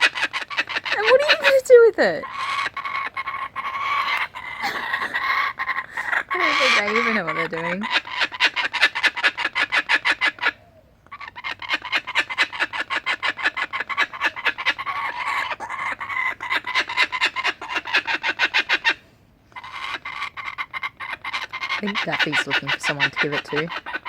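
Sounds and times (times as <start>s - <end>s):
kookaburras cackling: 0.0s - 24.0s.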